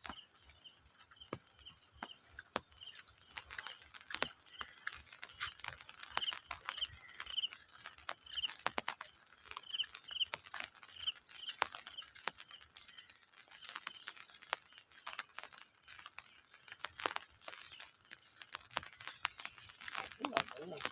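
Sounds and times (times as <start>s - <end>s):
crickets trilling: 0.0s - 20.9s.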